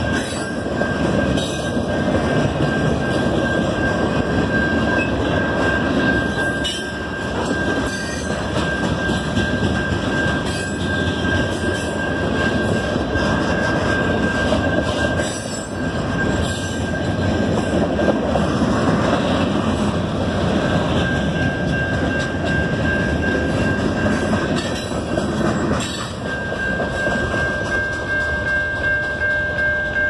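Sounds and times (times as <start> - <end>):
steady high tone: 0.0 - 18.7, 19.4 - 30.0
train wheels rumbling on rails: 0.0 - 30.0.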